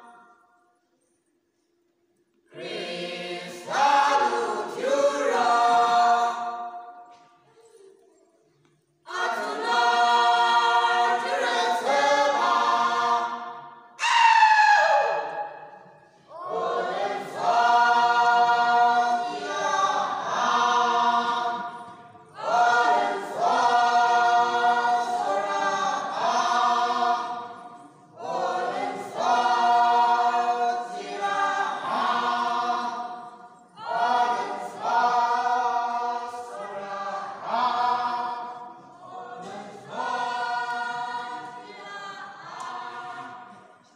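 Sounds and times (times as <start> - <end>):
group singing unaccompanied: 2.5 - 7.2, 9.0 - 14.0, 15.0 - 43.9.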